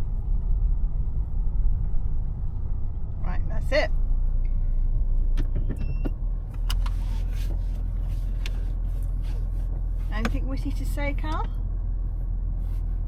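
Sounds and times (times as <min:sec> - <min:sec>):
engine idling low rumble: 0:00.0 - 0:13.0.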